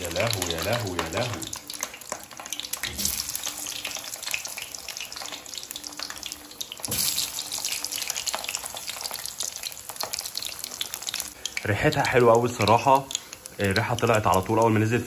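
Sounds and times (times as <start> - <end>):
patties frying in sizzling oil: 0.0 - 15.0.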